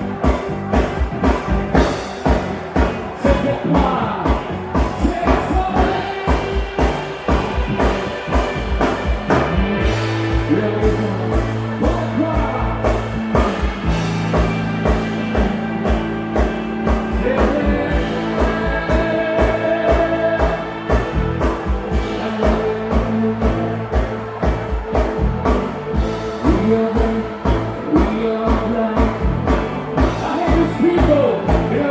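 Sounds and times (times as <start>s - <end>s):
bass notes: 0.0s - 31.9s
drum beat: 0.0s - 31.9s
person singing: 2.2s - 8.6s, 9.3s - 31.9s.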